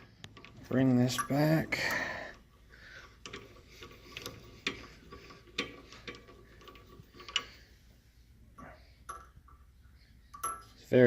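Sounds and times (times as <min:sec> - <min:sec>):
light metallic clicks and knocks: 0:00.0 - 0:07.7, 0:08.5 - 0:09.7, 0:10.3 - 0:10.9.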